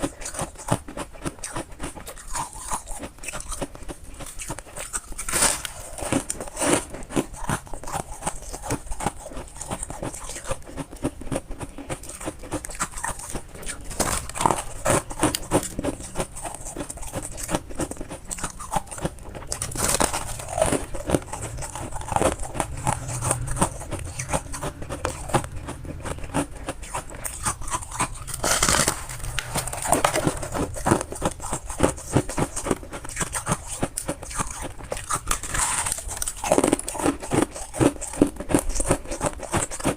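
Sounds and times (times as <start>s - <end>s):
chewing and crunching frost: 0.0s - 39.9s.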